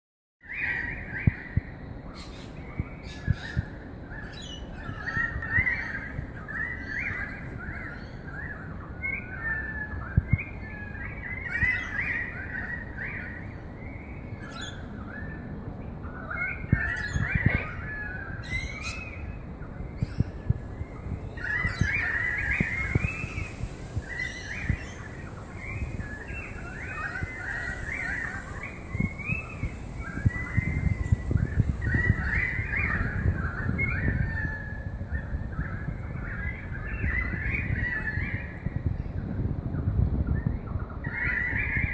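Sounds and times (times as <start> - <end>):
birds chirping: 0.5 - 39.5.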